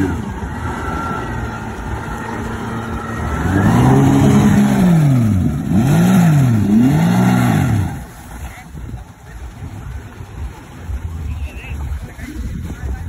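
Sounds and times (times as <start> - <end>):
outboard motor revving: 0.0 - 13.0
propeller churning water: 0.0 - 13.0.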